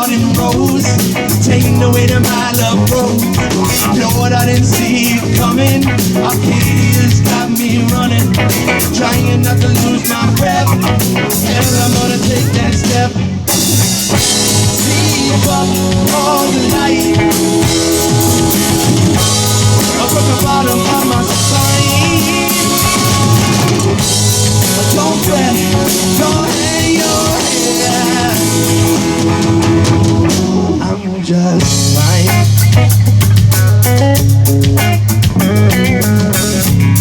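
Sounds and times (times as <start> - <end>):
drum kit: 0.0 - 31.0, 31.6 - 37.0
bass: 0.0 - 37.0
guitar: 0.0 - 37.0.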